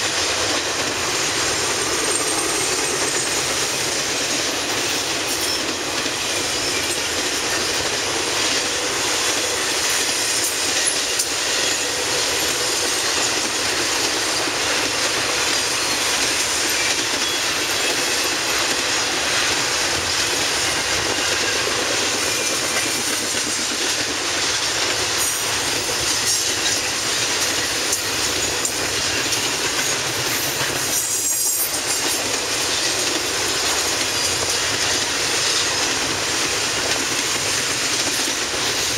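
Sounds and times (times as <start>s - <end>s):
steel wheels rolling on rails: 0.0s - 38.9s.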